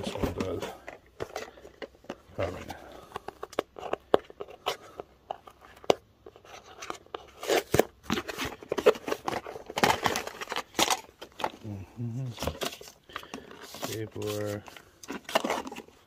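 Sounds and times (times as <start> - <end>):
cardboard clicks and crinkles: 0.0 - 16.0.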